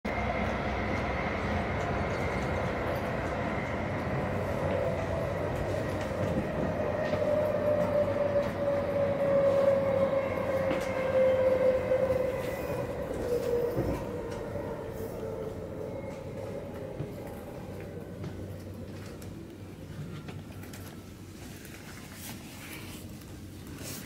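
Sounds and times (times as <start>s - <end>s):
train rumbling on track: 0.0s - 23.9s.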